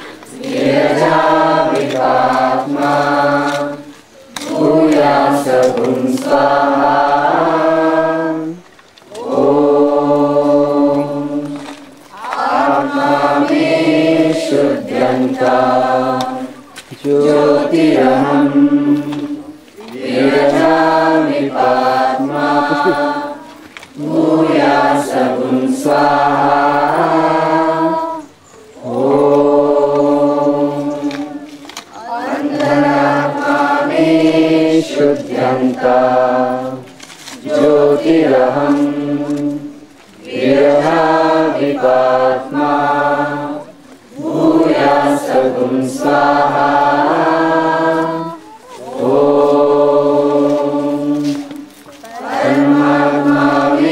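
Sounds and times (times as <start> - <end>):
group of voices chanting: 0.0 - 53.9.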